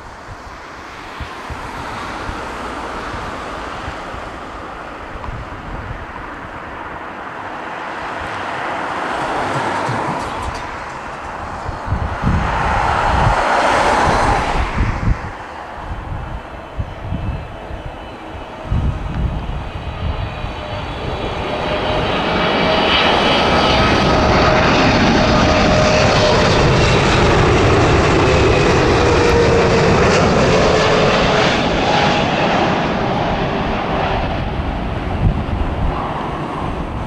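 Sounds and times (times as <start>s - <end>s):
jet airliner passing overhead: 0.0s - 37.0s
jet engine whine falling in pitch: 0.1s - 37.0s.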